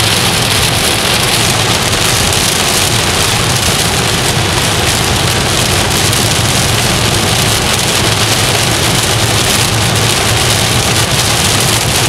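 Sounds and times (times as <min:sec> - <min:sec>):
car tyres humming on wet road: 0:00.0 - 0:12.0
heavy rain on car roof: 0:00.0 - 0:12.0.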